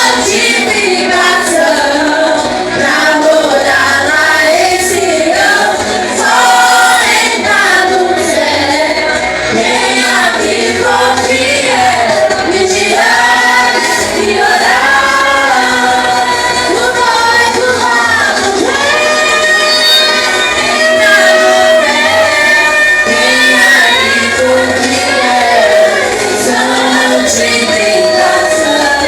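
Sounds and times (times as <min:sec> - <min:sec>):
choir singing worship music: 0:00.0 - 0:29.0
musical accompaniment: 0:00.0 - 0:29.0.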